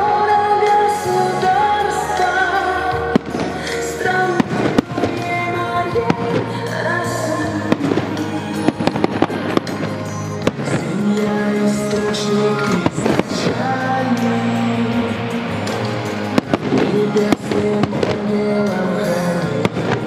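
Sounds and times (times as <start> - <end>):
fireworks bursting with bangs: 0.0 - 20.0
music: 0.0 - 20.0.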